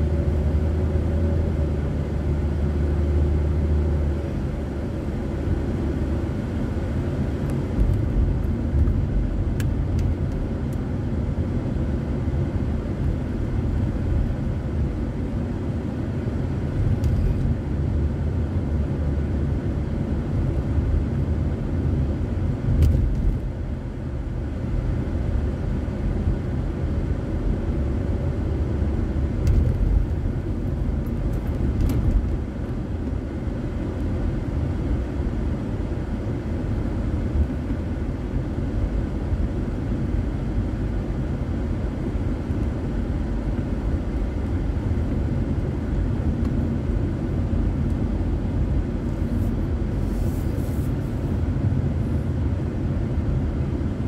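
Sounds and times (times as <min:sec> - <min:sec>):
car engine rumble: 0:00.0 - 0:54.0
tyres on the road: 0:00.0 - 0:54.0.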